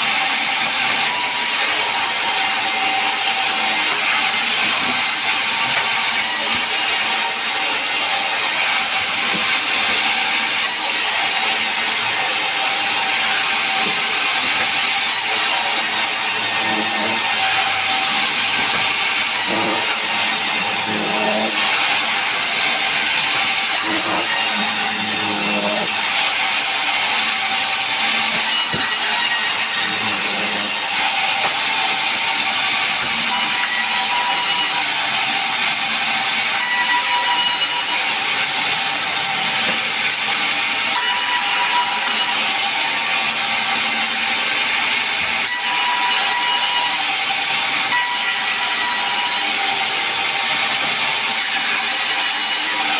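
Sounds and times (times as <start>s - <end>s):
saw cutting through log: 0.0s - 52.9s.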